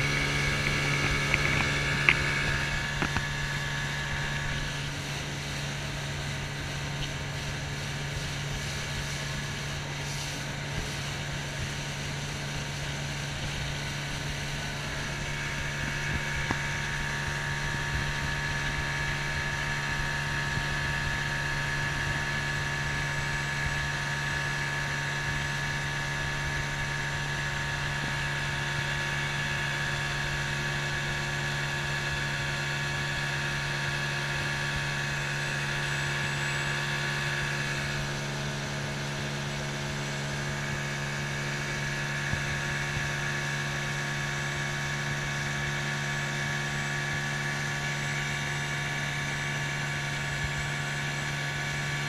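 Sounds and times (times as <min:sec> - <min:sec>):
thin high whine: 0:00.0 - 0:11.2, 0:12.1 - 0:52.0
outboard motor running: 0:00.0 - 0:52.0.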